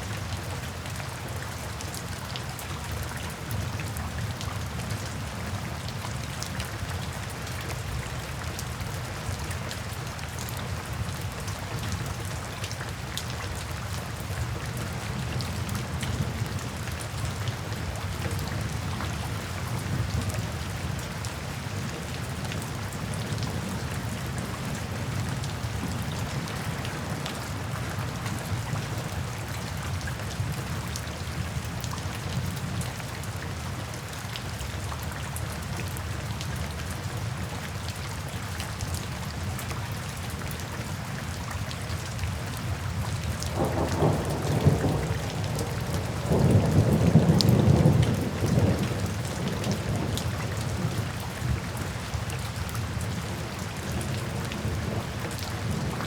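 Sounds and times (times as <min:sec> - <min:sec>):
steady rainfall: 0:00.0 - 0:56.0
raindrops pattering: 0:00.1 - 0:56.0.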